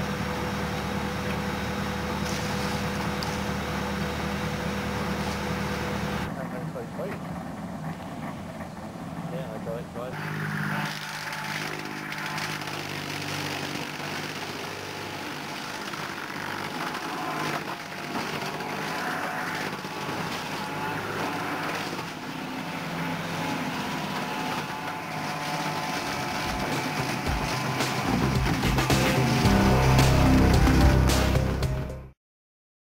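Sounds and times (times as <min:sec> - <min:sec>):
mower chopping brush: 0:00.0 - 0:06.3, 0:10.1 - 0:31.6
tractor engine running: 0:00.0 - 0:32.1.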